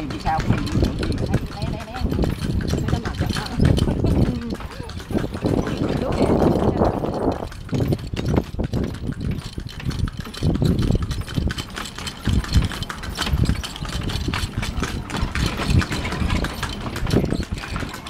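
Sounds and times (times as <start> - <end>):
cart wheels rumbling and rattling: 0.0 - 18.0
horse hooves knocking: 0.0 - 18.0.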